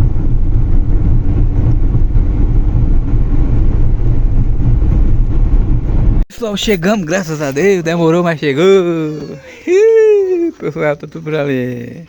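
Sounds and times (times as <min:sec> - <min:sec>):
car road and engine rumble: 0:00.0 - 0:11.3.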